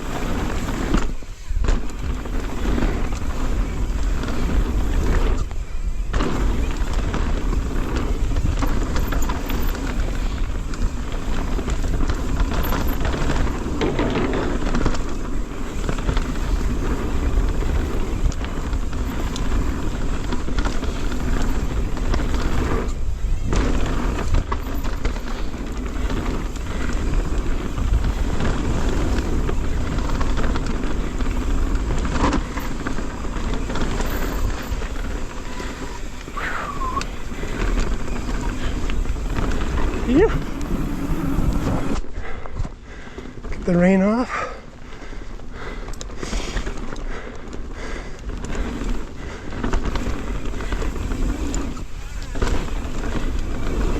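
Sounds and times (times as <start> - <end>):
bike rattling over bumps: 0.0 - 53.9
bike tyre noise on dirt: 0.0 - 53.9.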